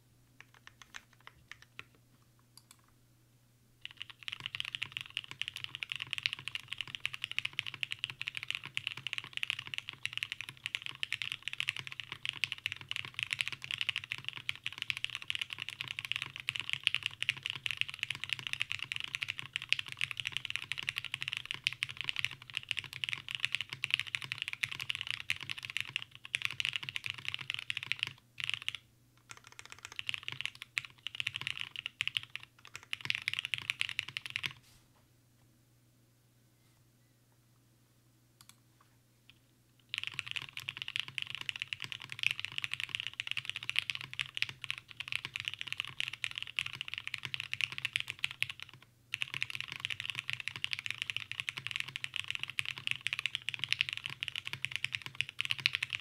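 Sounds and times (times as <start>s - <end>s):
fast typing on mechanical keyboard: 0.4s - 1.9s, 3.8s - 34.6s, 39.9s - 56.0s.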